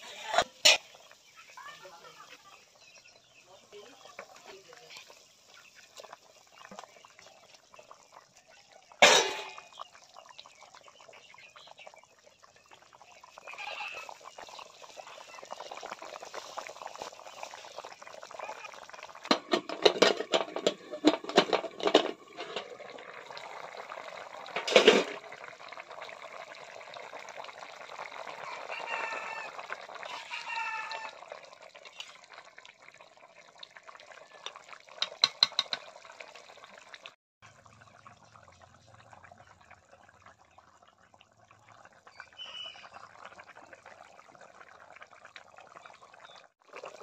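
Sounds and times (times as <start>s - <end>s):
curry bubbling at a boil: 0.0s - 47.0s.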